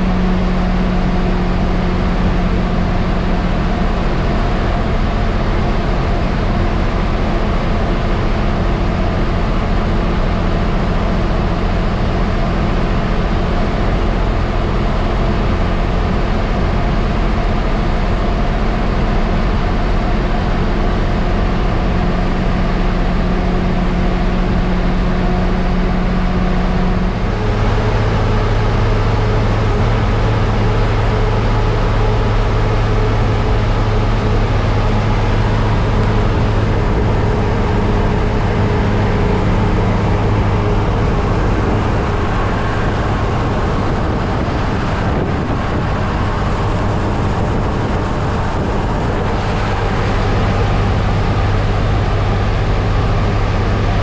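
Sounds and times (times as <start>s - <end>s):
bus diesel engine running: 0.0s - 54.0s
road noise: 0.0s - 54.0s.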